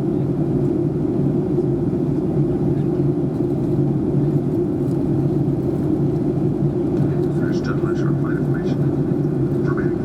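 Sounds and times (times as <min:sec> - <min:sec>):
aircraft cabin engine drone: 0:00.0 - 0:10.0.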